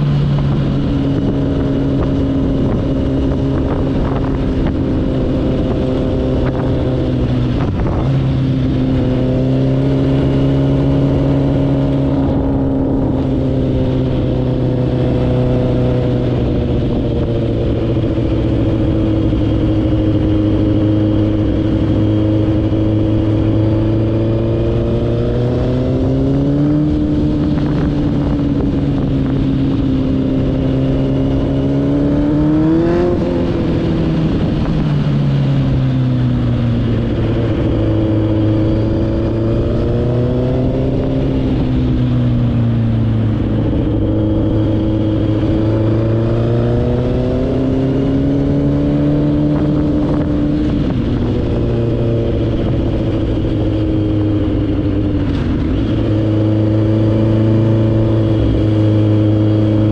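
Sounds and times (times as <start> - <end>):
quad bike engine revving: 0.0 - 34.8, 37.0 - 42.0, 42.8 - 59.9.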